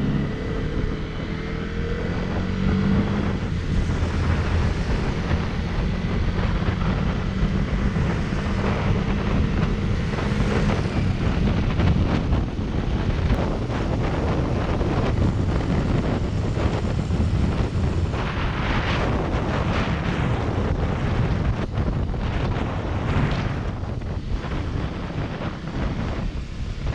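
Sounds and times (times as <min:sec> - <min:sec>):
motorcycle engine running: 0:00.0 - 0:26.9
wind noise on microphone: 0:00.0 - 0:26.9.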